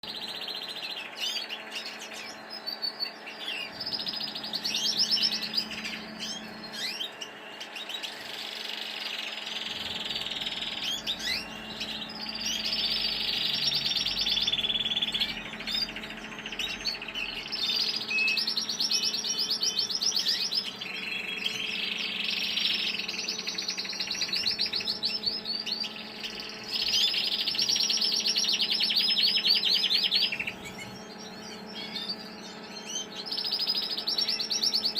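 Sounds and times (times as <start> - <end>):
canaries singing trills: 0.0 - 34.9
steady low hum: 0.0 - 34.9.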